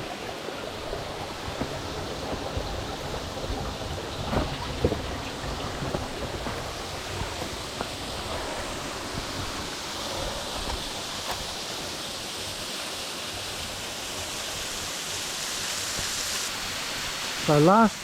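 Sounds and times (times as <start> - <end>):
small waterfall splashing: 0.0 - 18.0.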